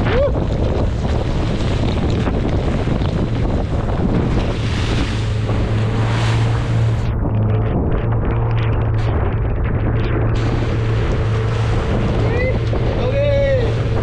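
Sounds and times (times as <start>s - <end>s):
boat engine hum: 0.0s - 14.0s
wind buffeting microphone: 0.0s - 14.0s.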